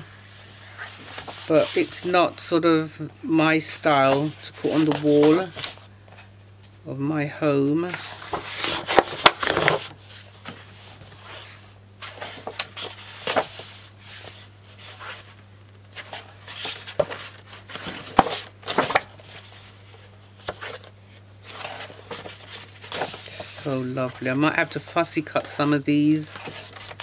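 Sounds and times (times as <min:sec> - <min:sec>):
steady low hum: 0:00.0 - 0:27.0
paper pages rustling: 0:00.6 - 0:02.2, 0:03.9 - 0:06.3, 0:07.9 - 0:27.0.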